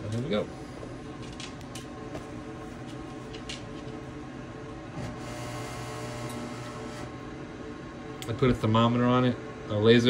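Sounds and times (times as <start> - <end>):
pellet stove exhaust fan hum: 0.0 - 10.0.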